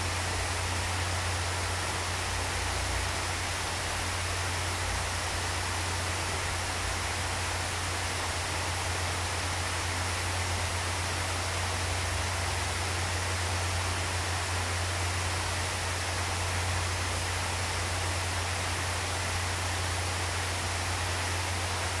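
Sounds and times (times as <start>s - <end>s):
water cascade into pool: 0.0s - 22.0s.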